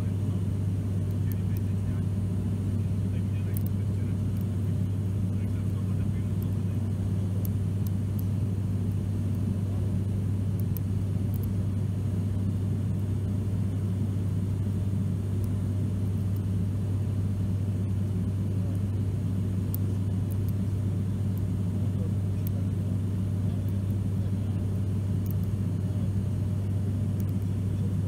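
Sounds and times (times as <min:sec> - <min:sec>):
turboprop cabin drone: 0:00.0 - 0:28.0.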